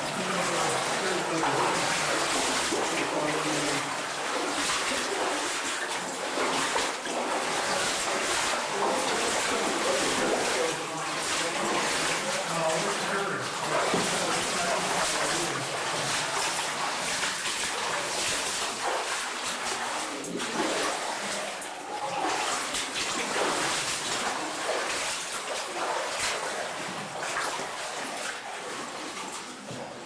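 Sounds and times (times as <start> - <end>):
stream water splashing: 0.0 - 30.0.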